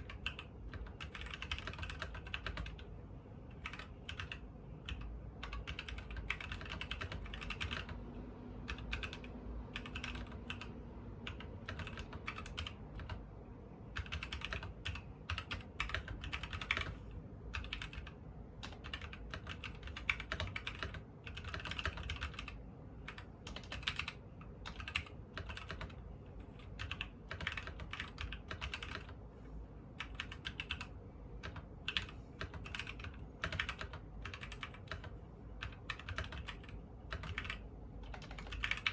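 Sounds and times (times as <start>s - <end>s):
mechanical keyboard typing: 0.0s - 13.3s, 13.9s - 29.2s, 30.0s - 38.9s.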